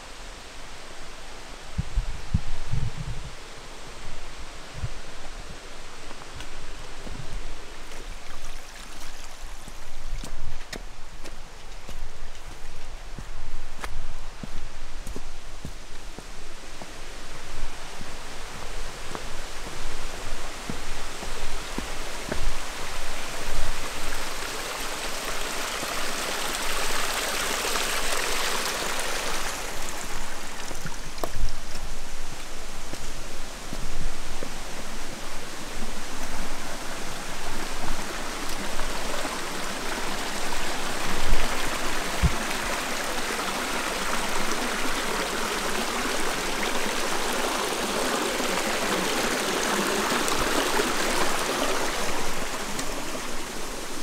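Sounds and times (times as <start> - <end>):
stream water rushing: 3.3 - 54.0.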